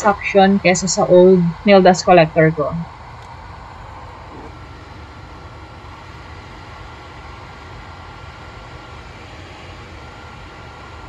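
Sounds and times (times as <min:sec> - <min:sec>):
faint high whine: 0:00.0 - 0:11.0
fan whooshing hum: 0:00.0 - 0:11.0.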